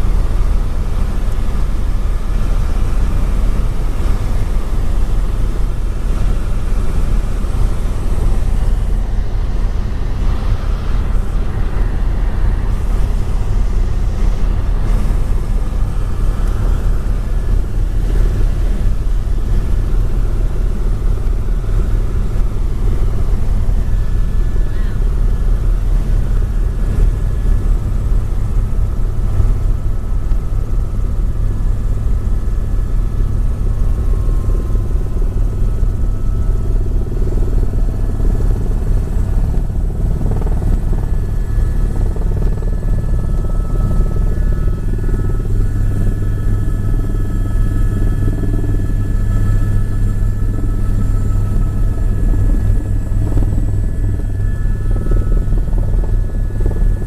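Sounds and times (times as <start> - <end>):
helicopter rotor and engine drone: 0.0 - 57.0
faint whining tones: 3.1 - 57.0.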